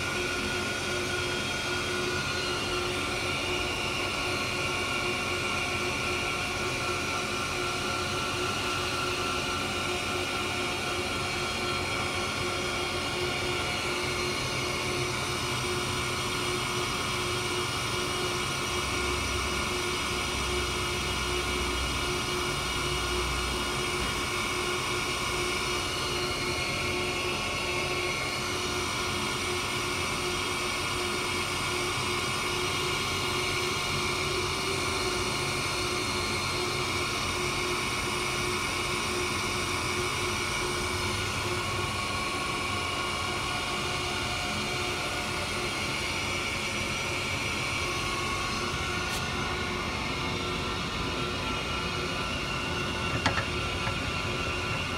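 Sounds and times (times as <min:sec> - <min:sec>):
grinder machine humming: 0:00.0 - 0:54.9.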